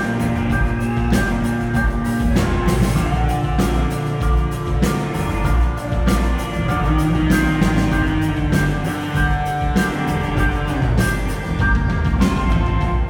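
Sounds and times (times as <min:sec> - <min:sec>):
electric guitars: 0:00.0 - 0:13.0
live rock band playing: 0:00.0 - 0:13.0
steady drum beat: 0:00.0 - 0:13.0.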